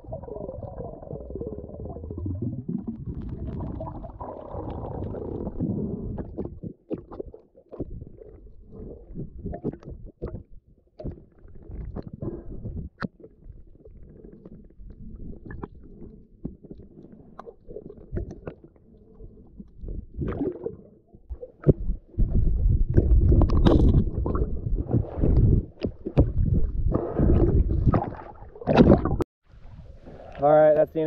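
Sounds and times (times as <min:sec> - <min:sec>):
muffled underwater gurgling: 0:00.0 - 0:29.2.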